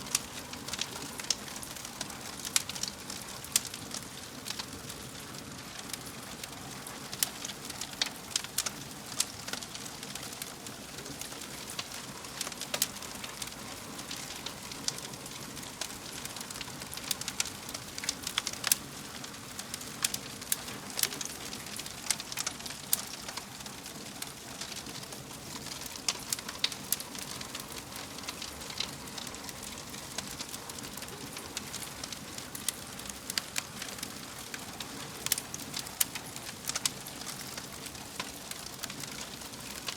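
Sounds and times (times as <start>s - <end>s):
fire crackling: 0.0s - 39.9s
fire popping and snapping: 0.0s - 39.9s.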